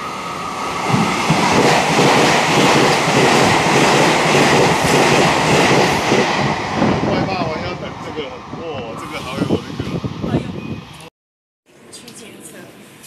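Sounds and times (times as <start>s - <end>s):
train rushing past wheel noise: 0.0s - 11.1s.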